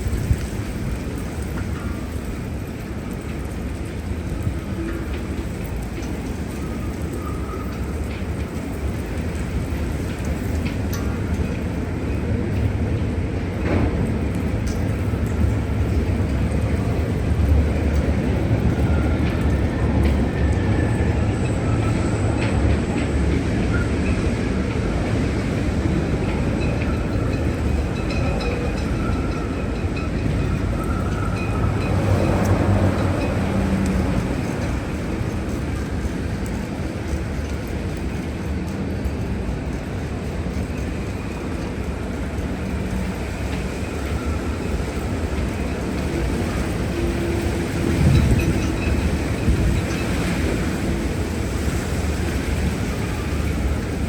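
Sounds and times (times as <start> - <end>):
gale-force wind gusting: 0.0 - 54.0.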